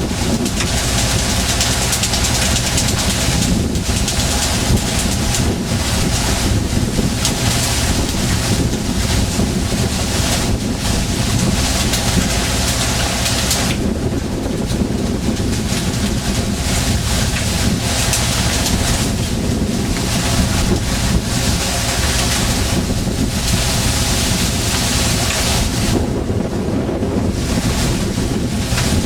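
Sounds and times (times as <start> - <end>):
boat engine rumble: 0.0 - 29.0
rushing water: 0.0 - 29.0
wind gusting on microphone: 0.0 - 29.0.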